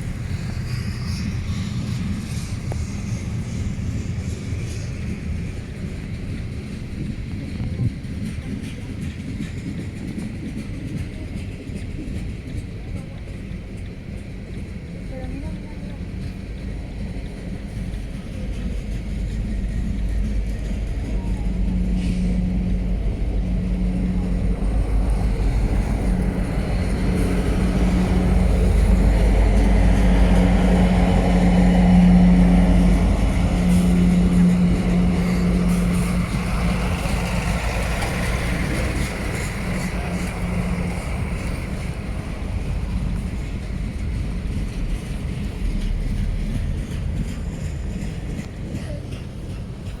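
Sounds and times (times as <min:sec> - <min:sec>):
locomotive hum: 0:00.0 - 0:50.0.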